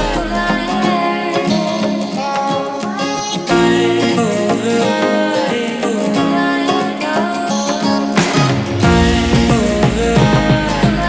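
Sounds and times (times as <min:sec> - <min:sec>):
song with guitar and singing: 0:00.0 - 0:11.0.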